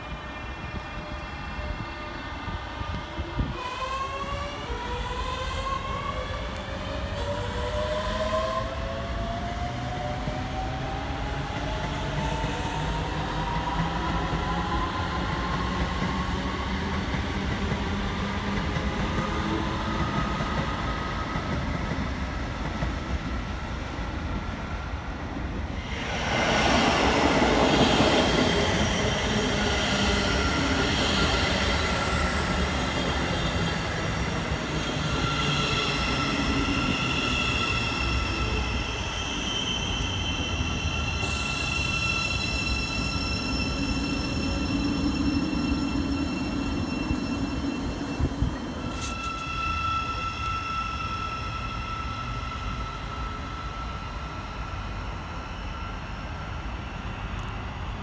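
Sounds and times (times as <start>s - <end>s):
electric train passing: 0.0s - 58.0s.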